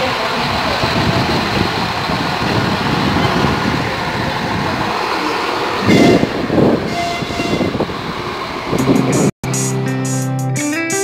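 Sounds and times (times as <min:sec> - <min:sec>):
railbus engine and wheels rumbling: 0:00.0 - 0:09.9.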